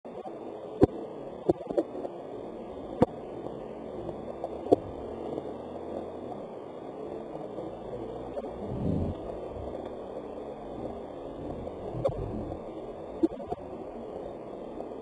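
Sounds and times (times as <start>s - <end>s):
rain hiss: 0.1s - 15.0s.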